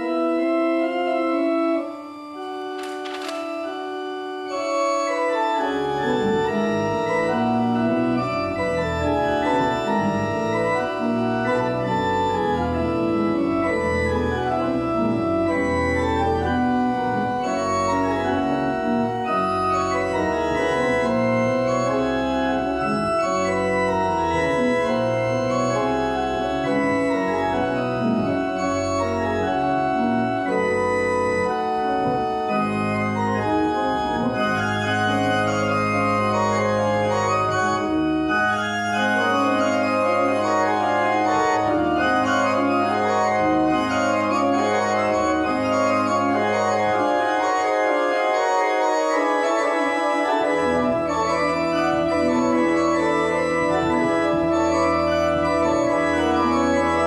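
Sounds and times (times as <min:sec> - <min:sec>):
church organ chords: 0:00.0 - 0:57.0
deep organ bass notes: 0:03.7 - 0:49.8.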